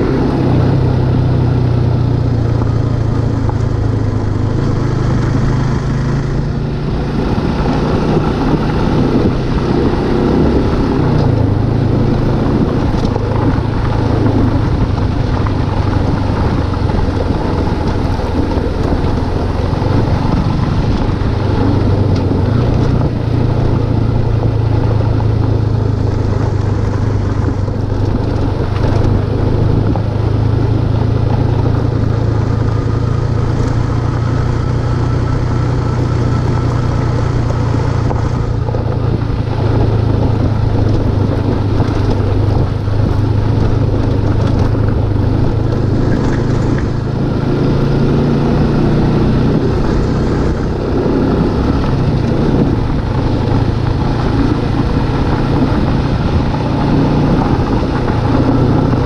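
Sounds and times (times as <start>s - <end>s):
motorcycle engine running: 0.0s - 59.0s
wind rushing noise: 0.0s - 59.0s.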